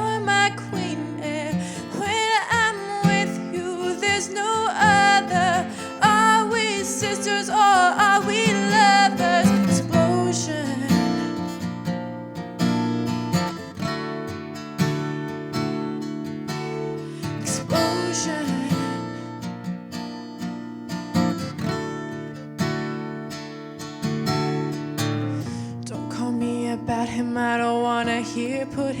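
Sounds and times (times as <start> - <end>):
acoustic guitar strummed chords: 0.0 - 29.0.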